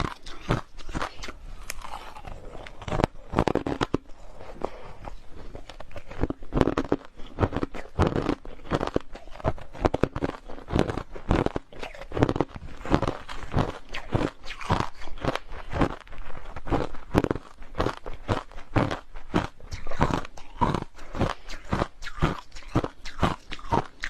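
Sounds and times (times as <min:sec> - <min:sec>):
person chewing crushed ice: 0:00.0 - 0:24.0.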